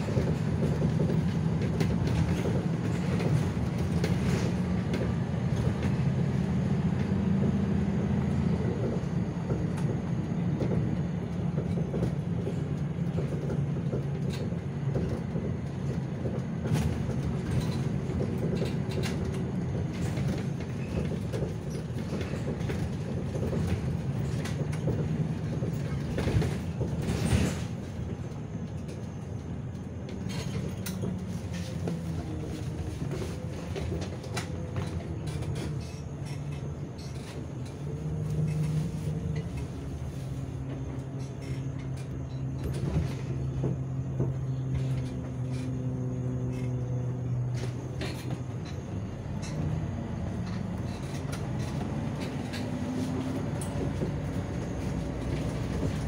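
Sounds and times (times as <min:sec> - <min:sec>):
bus body rattling and clicking: 0:00.0 - 0:56.0
bus engine running: 0:00.0 - 0:56.0.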